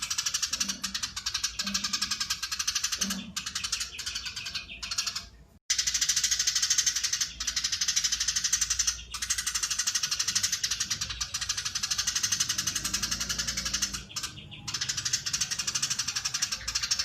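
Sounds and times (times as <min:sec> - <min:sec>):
sparrow chattering: 0:00.0 - 0:17.0.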